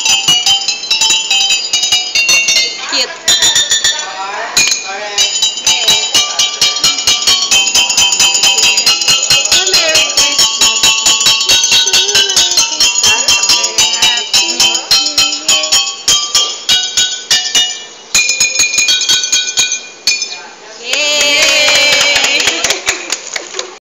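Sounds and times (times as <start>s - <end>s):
water bottle xylophone tune: 0.0s - 20.4s.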